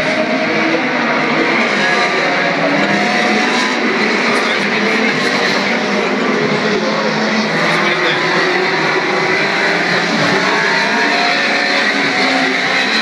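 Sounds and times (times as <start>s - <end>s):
racing car engines accelerating: 0.0s - 13.0s.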